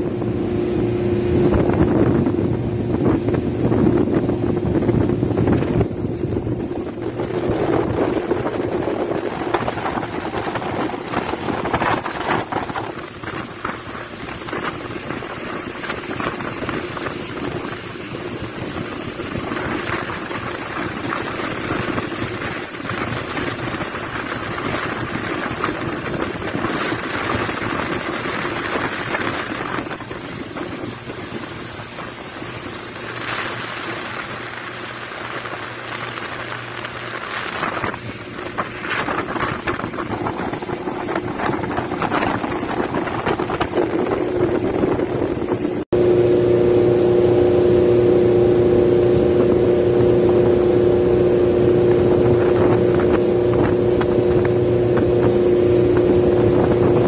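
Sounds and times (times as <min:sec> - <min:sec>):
boat engine humming: 0:00.0 - 0:57.0
water rushing: 0:00.0 - 0:57.0
wind noise: 0:00.0 - 0:57.0.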